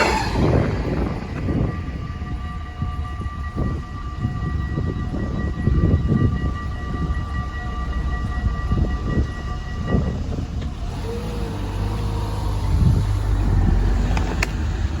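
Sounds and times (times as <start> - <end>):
continuous low rumble: 0.0 - 15.0
level crossing bells ringing: 0.0 - 15.0.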